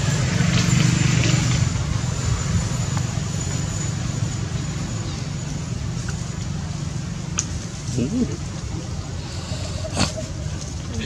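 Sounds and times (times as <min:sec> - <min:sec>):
constant hiss: 0:00.0 - 0:11.0.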